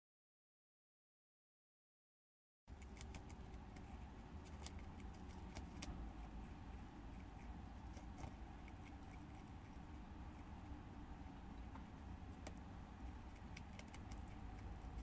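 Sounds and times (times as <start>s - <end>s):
animal chewing corn: 2.7s - 15.0s
low background hum: 2.7s - 15.0s.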